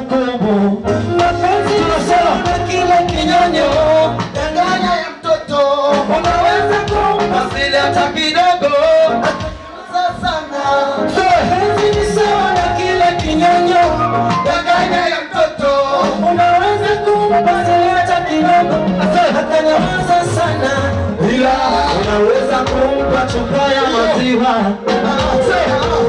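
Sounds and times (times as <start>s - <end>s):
loud music with steady beat: 0.0s - 26.0s
man singing into microphone: 0.0s - 26.0s.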